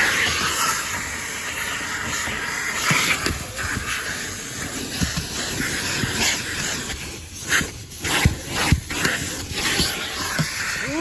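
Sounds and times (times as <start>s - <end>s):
vacuum hose sucking air: 0.0s - 11.0s.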